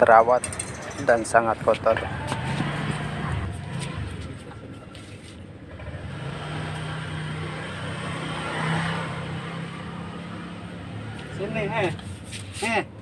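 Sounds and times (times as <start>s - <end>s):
low street rumble: 0.0s - 13.0s
vehicle engine humming: 0.0s - 13.0s.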